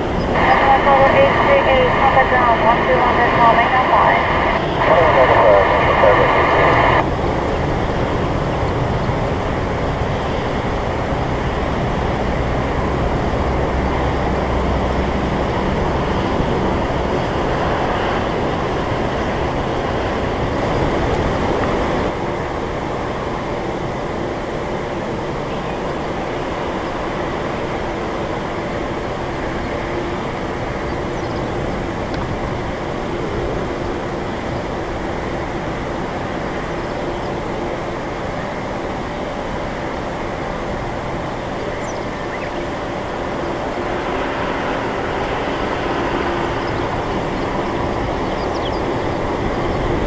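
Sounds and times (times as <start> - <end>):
jet engine roar: 0.0 - 50.0.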